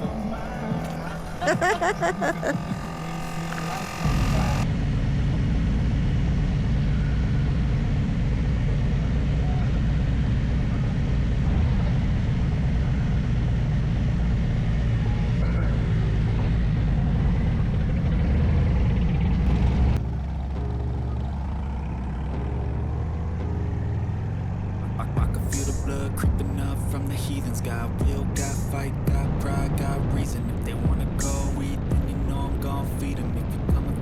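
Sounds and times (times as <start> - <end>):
motorcycle running: 0.0 - 34.0.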